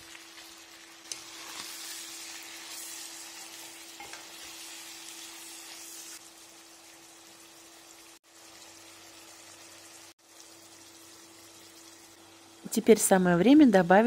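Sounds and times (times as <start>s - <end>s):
meat sizzling in frying pan: 0.0s - 12.8s.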